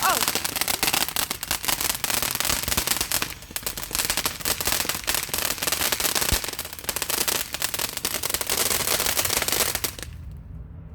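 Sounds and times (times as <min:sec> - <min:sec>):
fireworks crackling: 0:00.0 - 0:10.3.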